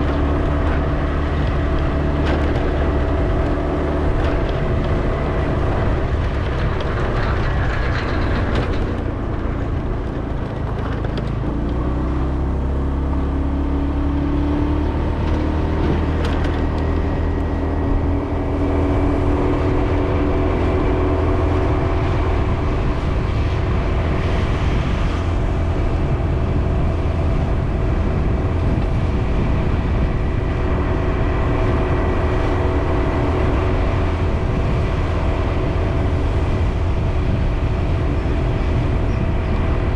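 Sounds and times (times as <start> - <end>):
road noise: 0.0 - 39.9
vehicle engine rumble: 0.0 - 39.9.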